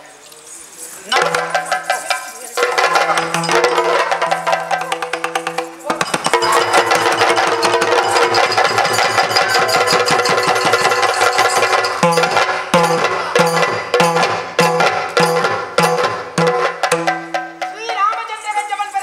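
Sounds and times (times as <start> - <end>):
drums playing fast rolls: 1.1 - 19.0.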